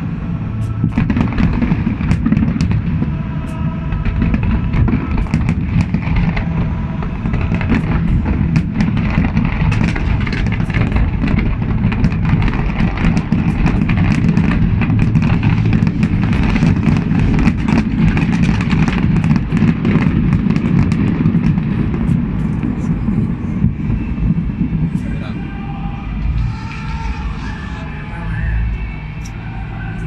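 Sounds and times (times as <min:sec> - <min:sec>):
fireworks low booms: 0:00.0 - 0:25.4
fireworks rapid crackling: 0:00.0 - 0:25.6.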